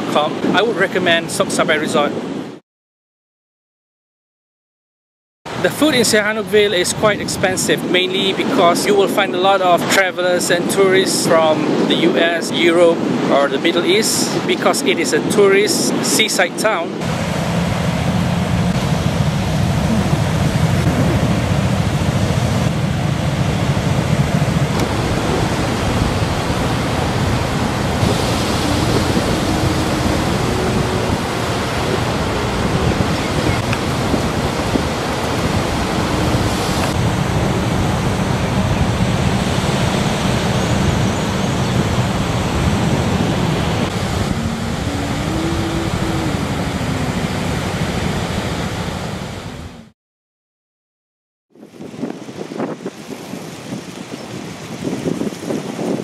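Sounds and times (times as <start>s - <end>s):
wind: 0.0s - 2.6s, 5.5s - 49.9s, 51.5s - 56.0s
waves breaking on a beach: 5.5s - 49.9s, 51.6s - 56.0s.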